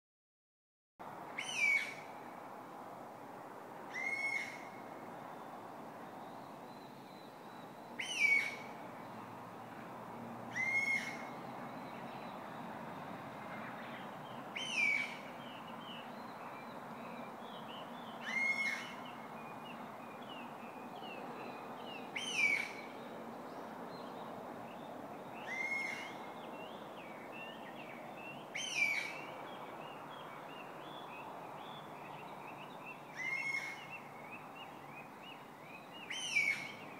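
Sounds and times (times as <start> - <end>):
hum of motorway traffic: 1.0 - 36.9.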